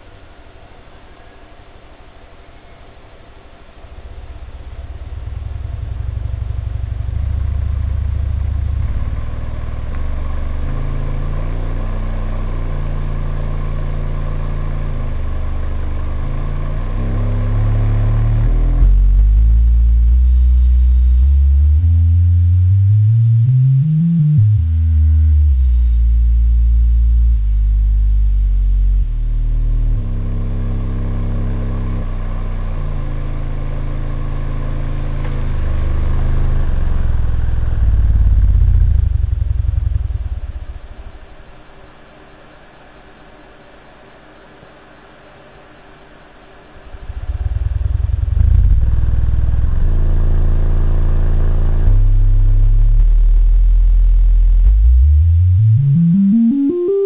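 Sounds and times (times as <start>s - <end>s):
subwoofer deep bass notes: 3.9s - 41.3s, 46.8s - 57.0s
gliding low tone: 4.0s - 41.1s, 46.8s - 57.0s.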